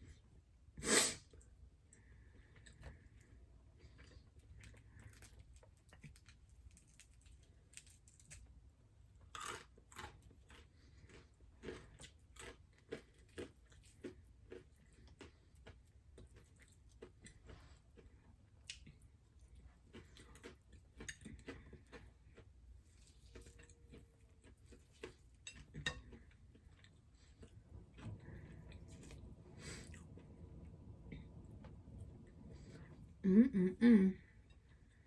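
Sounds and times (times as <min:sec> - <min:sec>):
person chewing food: 0:01.3 - 0:08.6, 0:09.2 - 0:33.2.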